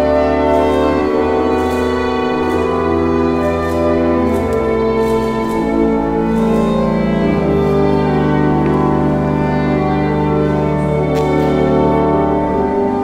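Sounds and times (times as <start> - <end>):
organ playing slow chords: 0.0 - 13.0.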